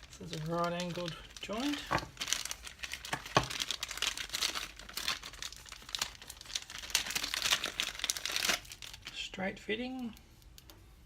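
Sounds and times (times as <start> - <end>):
packaging crinkling: 0.0 - 10.8.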